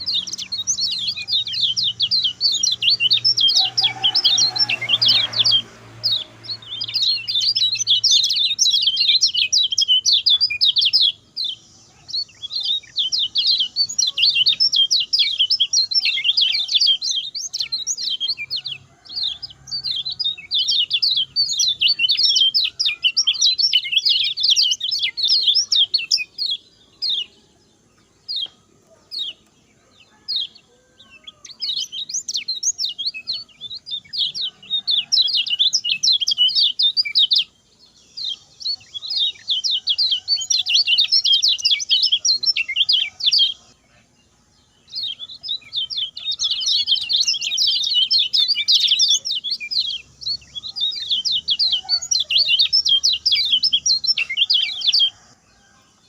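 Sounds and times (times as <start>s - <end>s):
bird singing rapid chirps: 0.0s - 56.0s.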